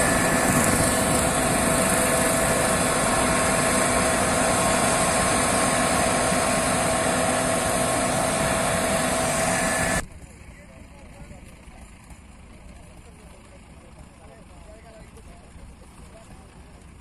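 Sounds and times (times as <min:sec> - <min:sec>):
combine harvester engine drone: 0:00.0 - 0:17.0
steady machinery whine: 0:00.0 - 0:17.0.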